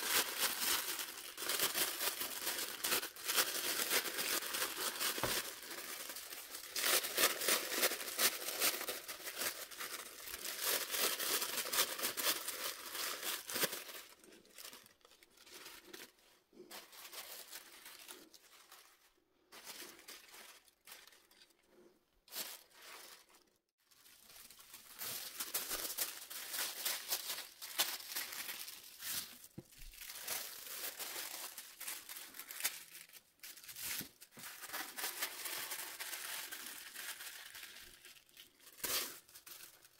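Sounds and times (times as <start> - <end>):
tissue paper crinkling: 0.0 - 39.9.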